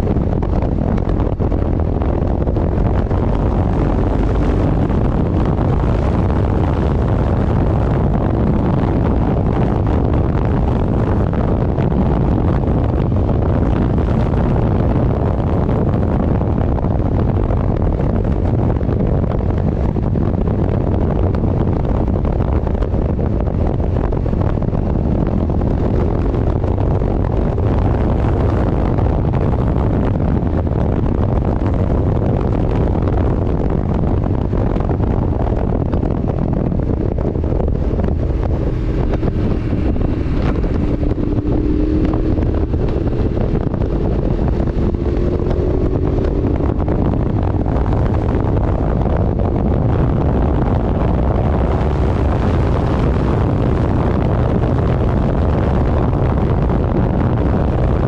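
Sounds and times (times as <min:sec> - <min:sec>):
vehicle running noise: 0:00.0 - 0:58.0
wind rushing over microphone: 0:00.0 - 0:58.0.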